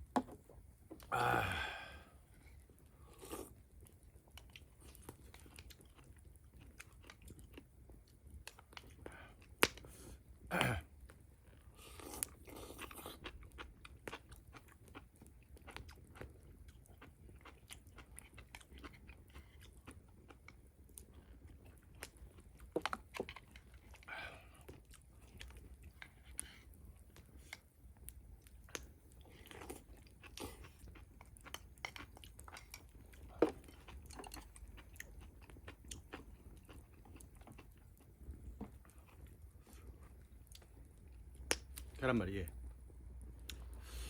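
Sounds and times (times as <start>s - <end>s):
person chewing food: 0.2s - 42.0s, 42.6s - 44.0s.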